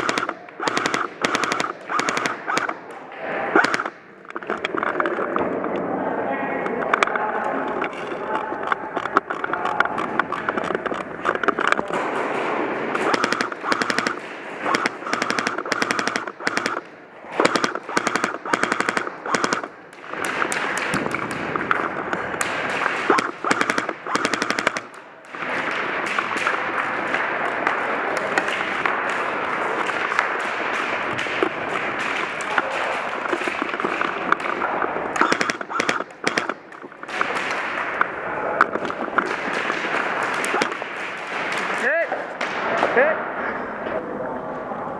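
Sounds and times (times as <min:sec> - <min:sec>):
airsoft guns firing full-auto: 0:00.0 - 0:02.9, 0:03.5 - 0:04.6, 0:10.0 - 0:42.8.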